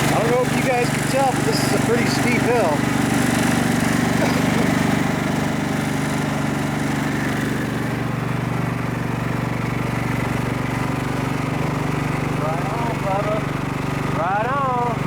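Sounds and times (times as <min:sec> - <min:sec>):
riding lawn mower engine: 0:00.0 - 0:15.0.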